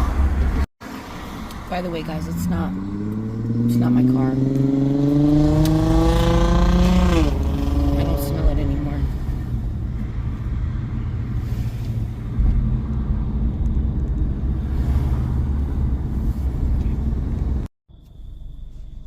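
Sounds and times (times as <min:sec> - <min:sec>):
car cabin road and engine rumble: 0:00.0 - 0:17.7.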